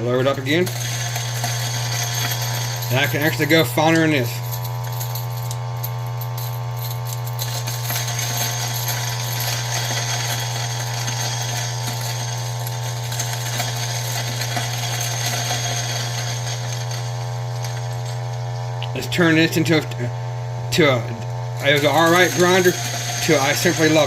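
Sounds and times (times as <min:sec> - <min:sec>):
coffee beans crackling in grinder: 0:00.0 - 0:19.0, 0:21.3 - 0:24.0
grinder motor humming: 0:00.0 - 0:24.0.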